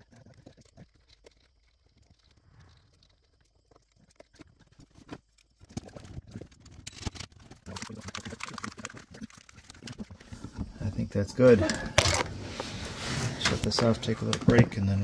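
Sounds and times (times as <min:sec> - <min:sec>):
handling clicks and rustles: 0:00.0 - 0:15.0.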